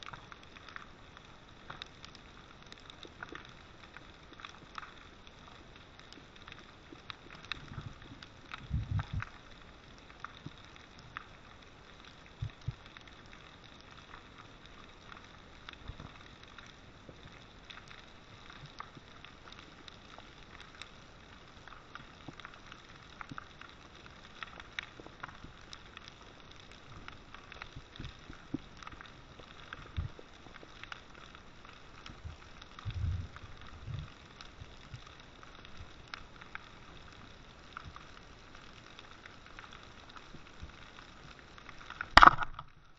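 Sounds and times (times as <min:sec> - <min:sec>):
underwater crackle of fine clicks: 0:00.0 - 0:42.9.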